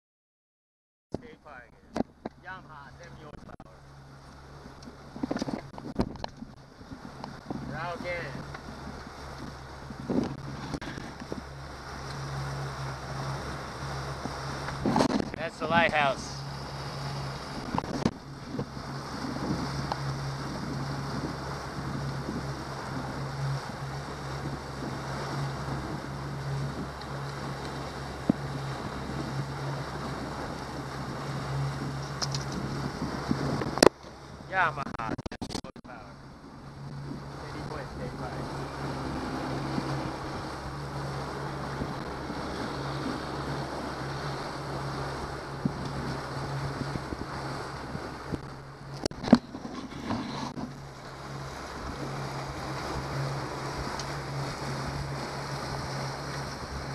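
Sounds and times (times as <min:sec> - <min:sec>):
boat wake churning: 0:01.2 - 0:56.9
outboard motor running: 0:01.2 - 0:56.9
rush of water: 0:01.2 - 0:56.9
wind buffeting microphone: 0:01.2 - 0:56.9.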